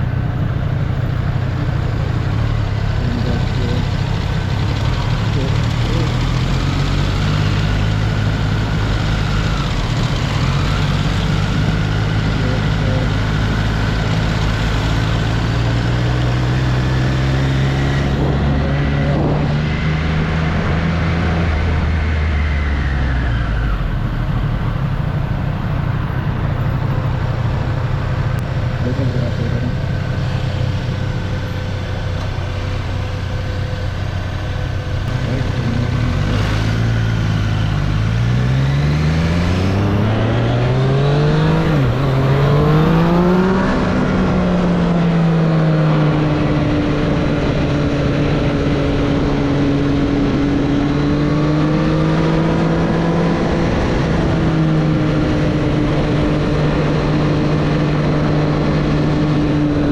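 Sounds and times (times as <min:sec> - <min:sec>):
motorcycle engine running: 0:00.0 - 0:22.8, 0:23.4 - 0:59.9
road and wind noise: 0:00.0 - 0:59.9.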